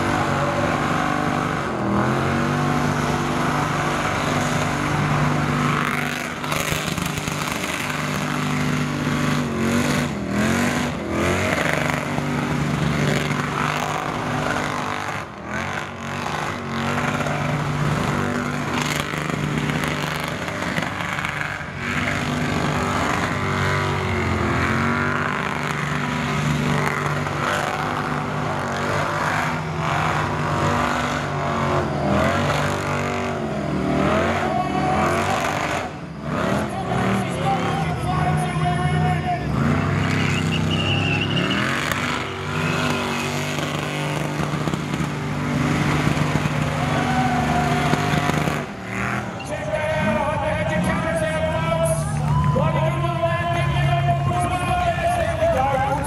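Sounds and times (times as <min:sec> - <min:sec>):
engine revving hard: 0:00.0 - 0:51.9.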